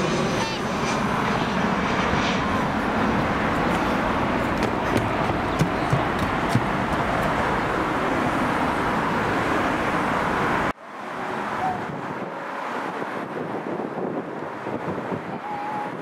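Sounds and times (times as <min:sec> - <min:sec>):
jet aircraft flying low: 0:00.0 - 0:16.0.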